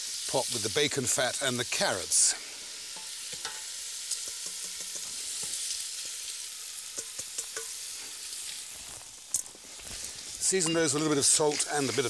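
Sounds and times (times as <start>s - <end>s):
food sizzling in fat: 0.0s - 12.0s.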